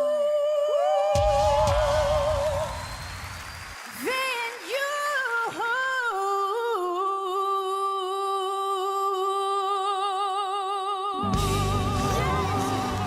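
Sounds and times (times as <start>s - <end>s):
person singing with vibrato: 0.0s - 2.9s, 4.0s - 13.0s.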